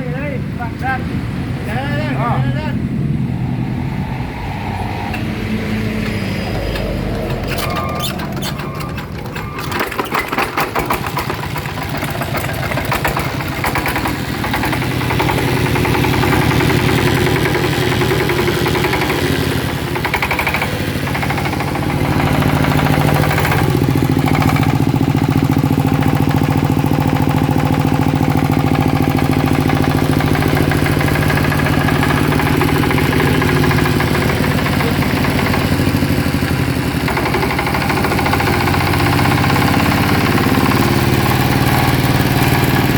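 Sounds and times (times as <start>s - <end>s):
diesel engine running: 0.8s - 42.9s.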